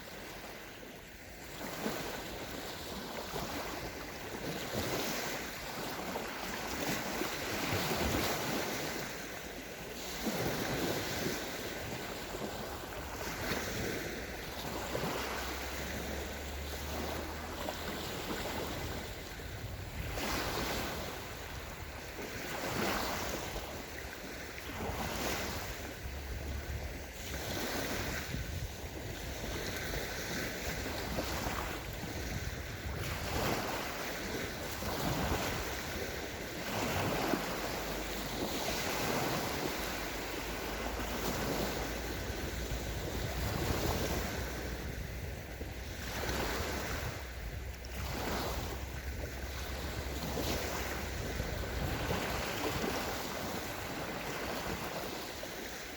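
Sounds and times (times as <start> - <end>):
sea waves breaking on shore: 0.0 - 55.9
wind rumble on microphone: 0.0 - 55.9.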